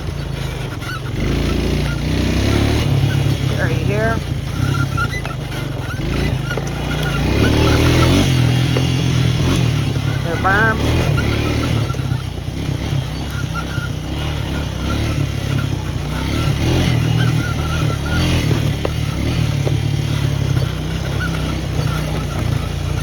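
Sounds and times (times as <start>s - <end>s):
atv engine running under load: 0.0s - 23.0s.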